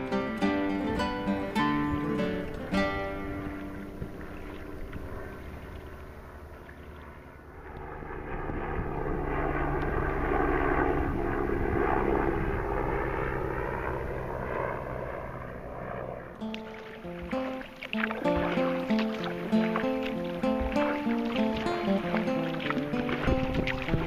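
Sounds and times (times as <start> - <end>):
engine drone passing by: 0.0 - 24.0.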